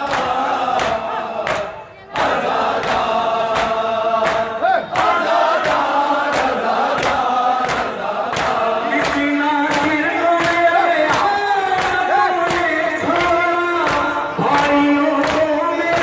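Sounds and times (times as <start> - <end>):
men chanting a lament: 0.0 - 16.0
hands slapping chests: 0.1 - 1.7, 2.8 - 16.0.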